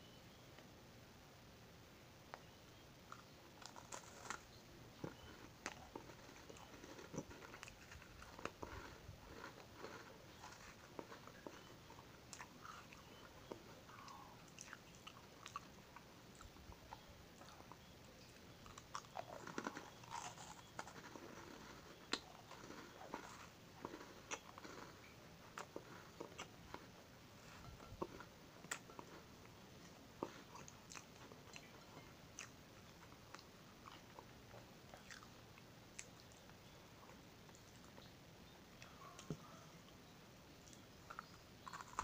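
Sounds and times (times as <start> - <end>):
crunchy biscuit chewing: 2.3 - 38.1, 40.6 - 42.0.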